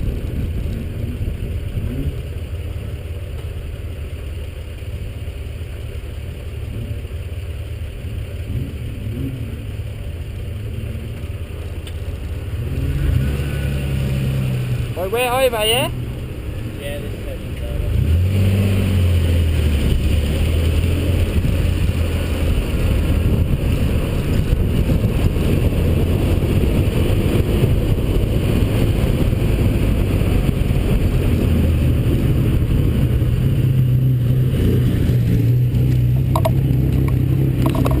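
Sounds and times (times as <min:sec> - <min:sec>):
car engine running loudly: 0:00.0 - 0:38.0.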